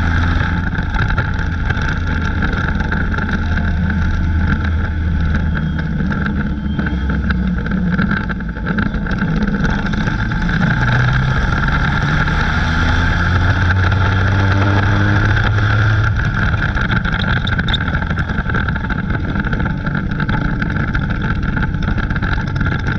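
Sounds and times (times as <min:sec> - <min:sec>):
race car engine running: 0:00.0 - 0:22.9.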